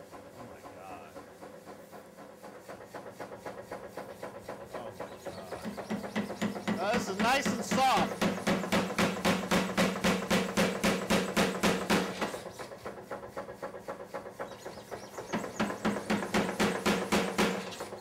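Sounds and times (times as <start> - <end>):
machine hum: 0.0 - 18.0
power hammer pounding steel: 0.0 - 18.0.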